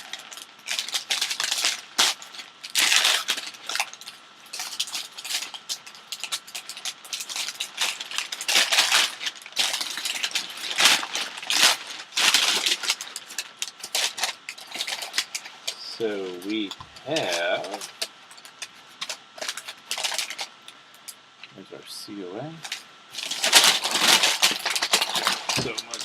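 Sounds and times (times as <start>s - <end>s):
paper crinkling and rustling: 0.0s - 20.5s, 22.6s - 26.0s.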